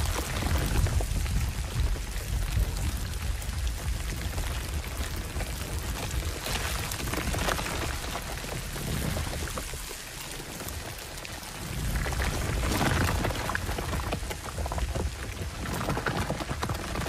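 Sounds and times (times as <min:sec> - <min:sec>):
crackling rain-like hiss: 0:00.0 - 0:17.0
deep rumble: 0:00.0 - 0:17.0.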